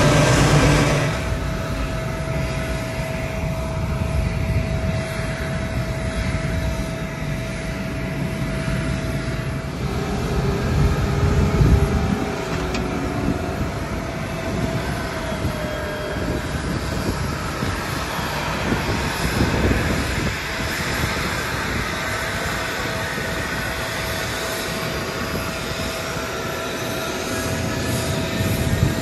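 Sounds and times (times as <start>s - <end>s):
jet turbine whine: 0.0s - 29.0s.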